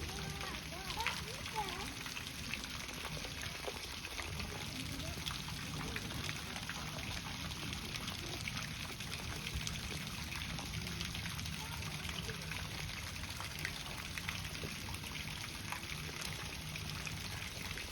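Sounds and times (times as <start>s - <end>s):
small drips and splashes: 0.0s - 17.9s
water pouring and trickling: 0.0s - 17.9s.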